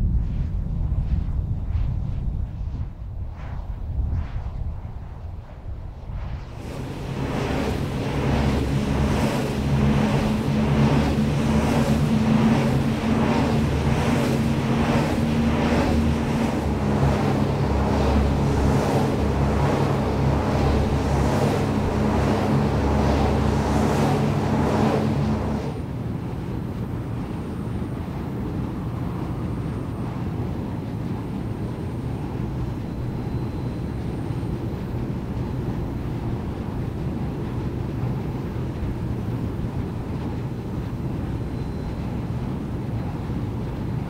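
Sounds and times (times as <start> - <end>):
wind turbine humming and swooshing: 0.0 - 44.0.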